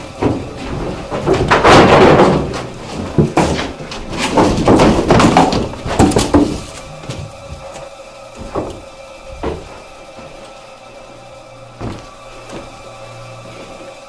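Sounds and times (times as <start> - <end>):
climbing wooden ladder: 0.0 - 10.6, 11.8 - 12.9
footsteps on wooden floorboards: 0.0 - 10.6, 11.8 - 14.0.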